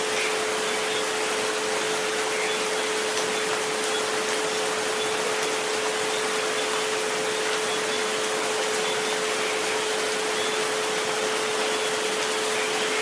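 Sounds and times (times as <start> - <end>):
rain-like hiss: 0.0 - 13.0.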